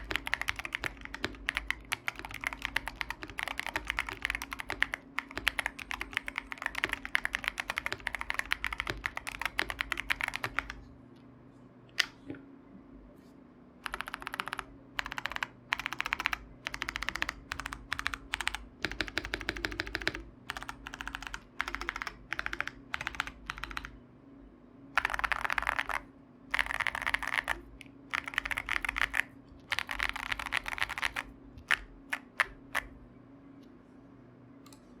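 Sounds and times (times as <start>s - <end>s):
mechanical keyboard typing: 0.0s - 10.8s, 13.8s - 24.0s, 25.0s - 32.9s.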